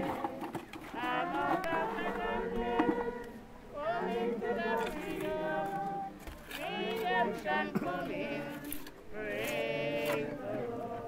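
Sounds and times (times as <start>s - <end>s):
voices singing unaccompanied: 0.0s - 11.0s.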